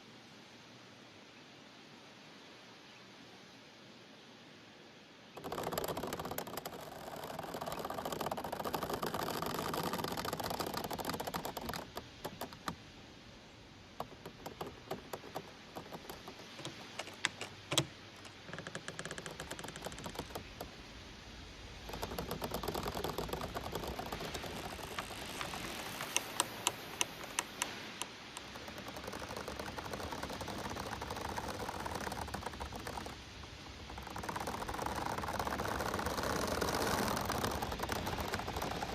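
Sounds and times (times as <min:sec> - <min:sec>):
leaves rustling in wind: 0:00.0 - 0:38.9
bamboo stems creaking and knocking: 0:05.3 - 0:12.9, 0:13.8 - 0:38.9.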